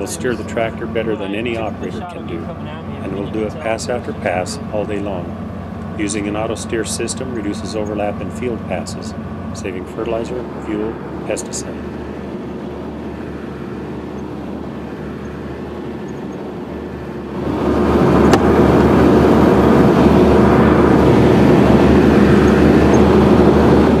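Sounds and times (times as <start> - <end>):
tractor and rotary cutter running: 0.0 - 24.0.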